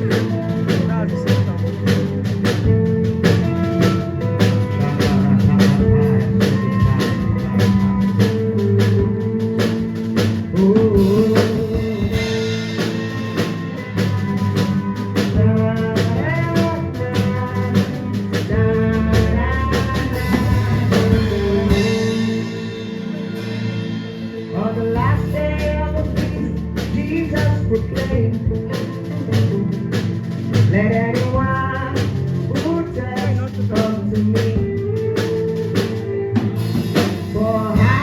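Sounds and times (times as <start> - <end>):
sustained keyboard chords: 0.0 - 35.1
drum kit beat: 0.0 - 38.0
guitar: 0.0 - 38.0.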